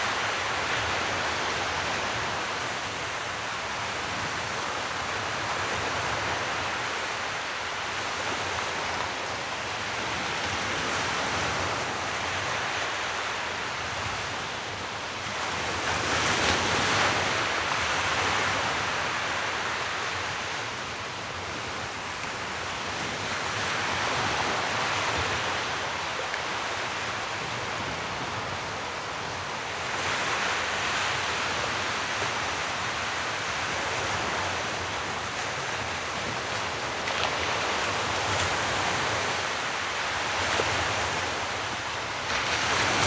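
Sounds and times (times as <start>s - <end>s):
waves breaking and washing in: 0.0s - 43.0s.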